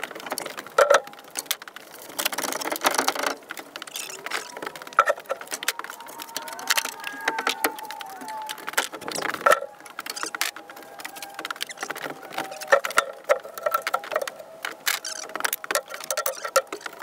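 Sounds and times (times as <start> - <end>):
wood being handled: 0.0 - 17.0.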